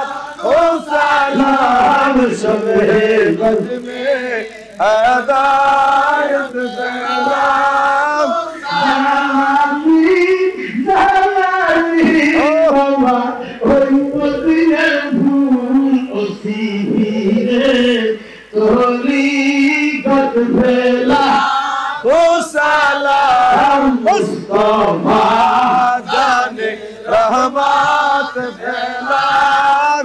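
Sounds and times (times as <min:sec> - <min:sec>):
man chanting: 0:00.0 - 0:30.0.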